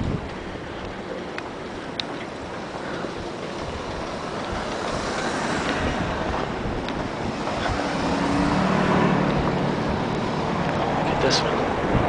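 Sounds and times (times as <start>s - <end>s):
car engine low hum: 0.0s - 12.0s
wind rushing over microphone: 0.0s - 12.0s.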